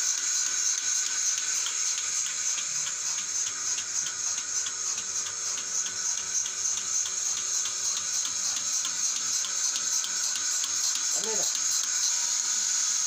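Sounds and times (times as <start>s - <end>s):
milking machine hiss: 0.0s - 13.0s
pulsator clicking: 0.0s - 13.0s.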